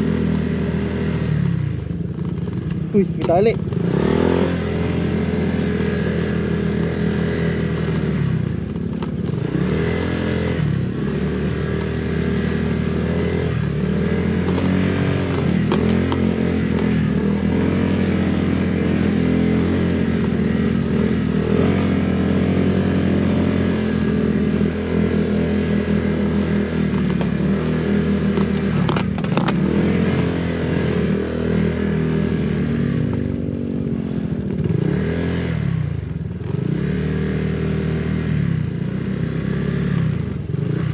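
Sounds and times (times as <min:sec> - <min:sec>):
scooter engine revving: 0:00.0 - 0:40.9.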